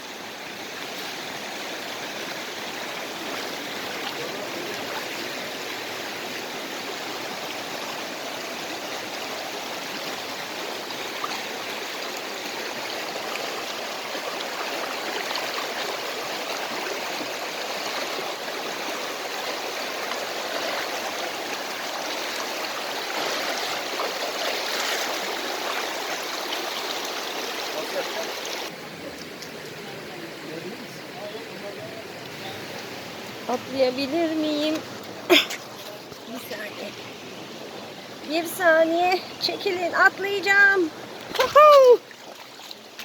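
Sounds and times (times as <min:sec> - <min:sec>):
creek water rushing: 0:00.0 - 0:43.0.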